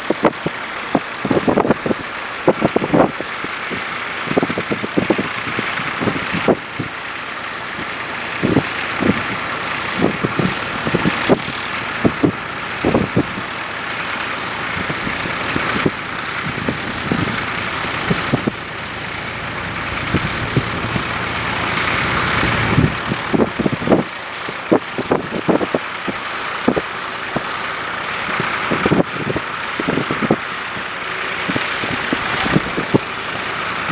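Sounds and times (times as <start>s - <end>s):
tractor engine under load: 0.0s - 33.9s.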